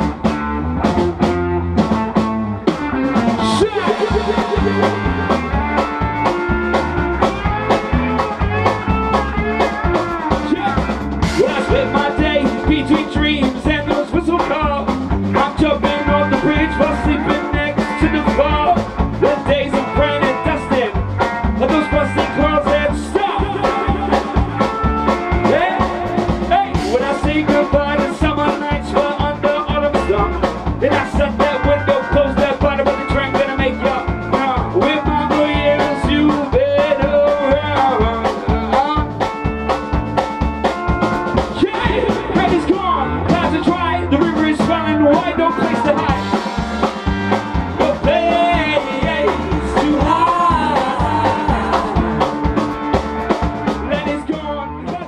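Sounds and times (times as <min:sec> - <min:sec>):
bass guitar: 0:00.0 - 0:55.0
drum kit steady beat: 0:00.0 - 0:55.0
electric guitars: 0:00.0 - 0:55.0.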